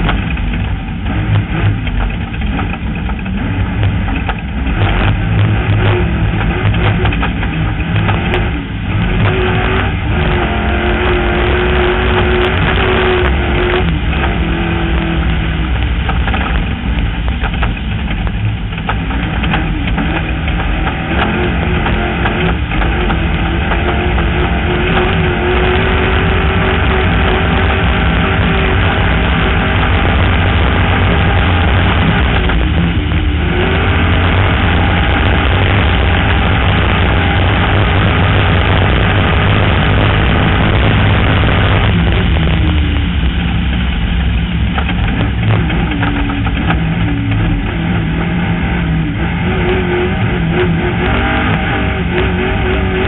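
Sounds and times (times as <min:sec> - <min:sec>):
off-road vehicle engine running hard: 0:00.0 - 0:53.0.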